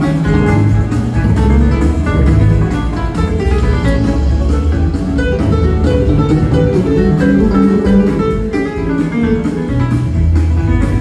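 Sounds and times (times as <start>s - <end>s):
live band guitar instrumental: 0.0s - 11.0s.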